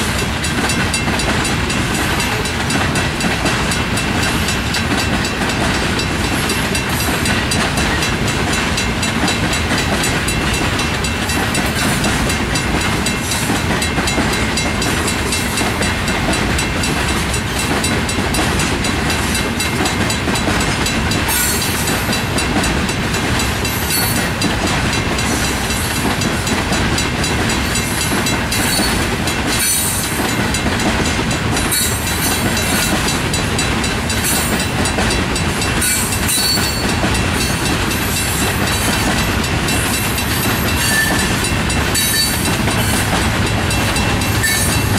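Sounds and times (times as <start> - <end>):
steel train wheels on rails: 0.0 - 44.9.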